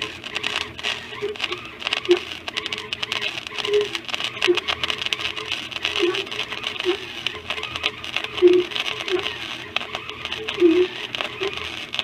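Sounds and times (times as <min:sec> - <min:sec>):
welder arc crackling: 0:00.0 - 0:12.0.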